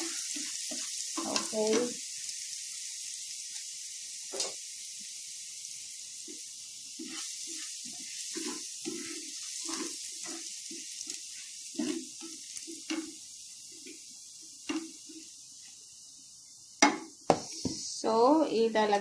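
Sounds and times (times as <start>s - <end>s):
garlic sizzling in hot oil: 0.0s - 19.0s.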